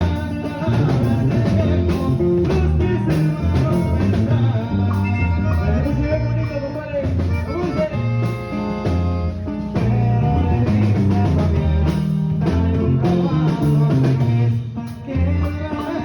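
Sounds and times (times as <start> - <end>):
person singing: 0.0 - 8.8, 9.5 - 16.0
bass line: 0.0 - 16.0
drums: 0.0 - 16.0.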